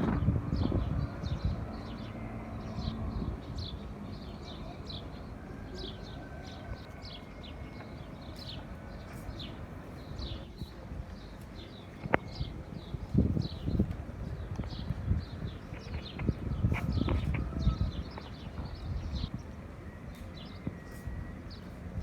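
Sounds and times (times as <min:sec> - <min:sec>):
small birds chirping: 0:00.6 - 0:19.5.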